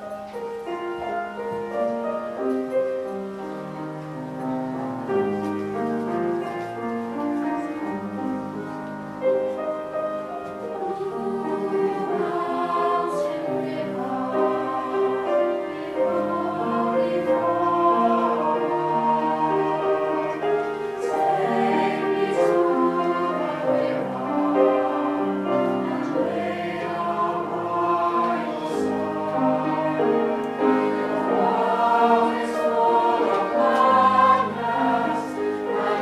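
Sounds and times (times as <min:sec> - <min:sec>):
choir singing in harmony: 0:00.0 - 0:36.0
grand piano: 0:00.0 - 0:36.0.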